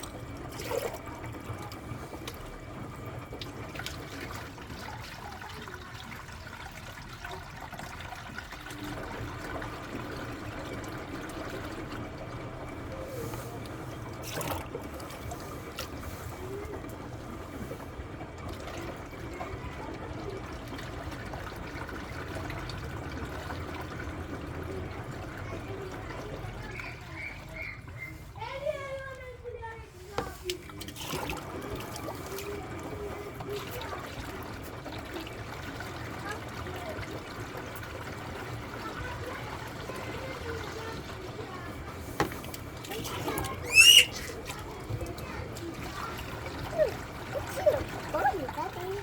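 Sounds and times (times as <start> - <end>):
water pouring into washing machine: 0.0 - 49.0.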